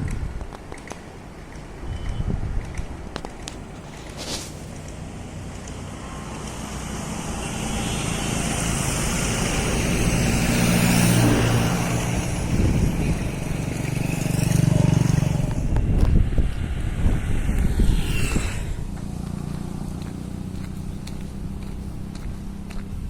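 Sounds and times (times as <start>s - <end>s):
vehicle engine passing: 4.3s - 23.0s.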